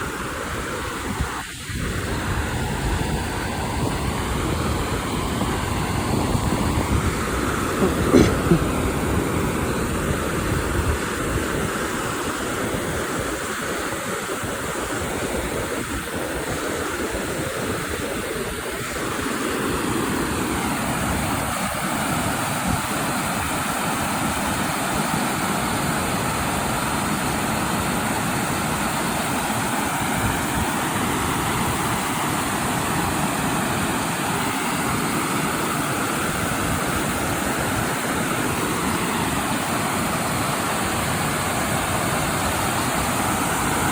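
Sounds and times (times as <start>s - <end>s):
creek water flowing: 0.0s - 43.9s.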